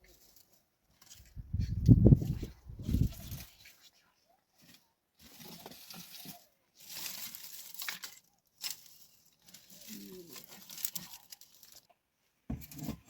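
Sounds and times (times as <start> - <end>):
rustling and crackling: 0.0 - 13.0.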